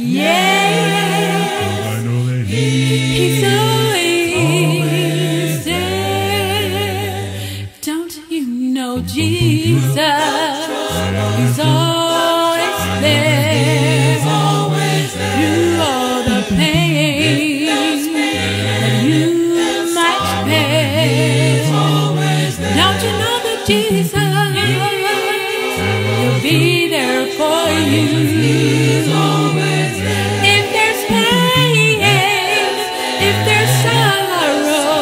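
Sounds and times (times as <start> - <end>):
vocal group singing a cappella: 0.0 - 35.0.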